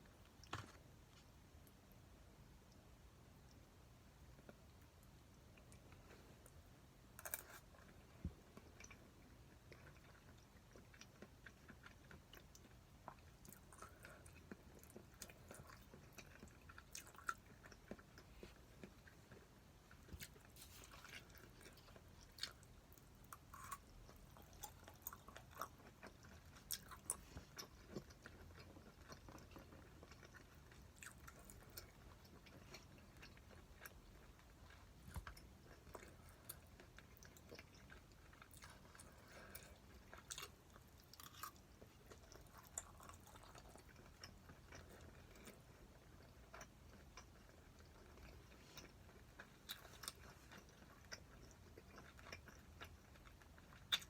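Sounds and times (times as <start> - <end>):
person chewing food: 4.3 - 54.0.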